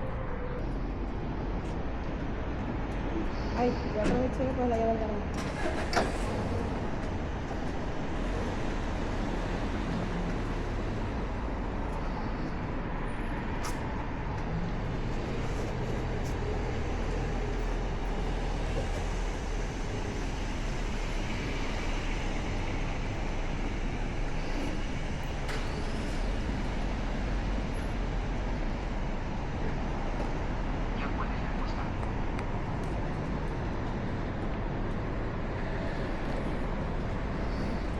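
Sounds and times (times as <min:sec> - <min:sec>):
road and wind noise: 0:00.0 - 0:37.9.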